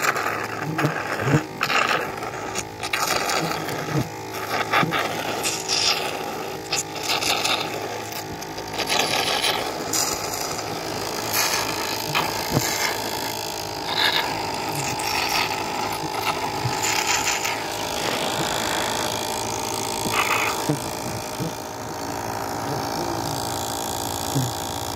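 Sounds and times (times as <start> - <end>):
hissing slurps through a tube: 0.0 - 24.9
suction pump humming: 0.0 - 24.9.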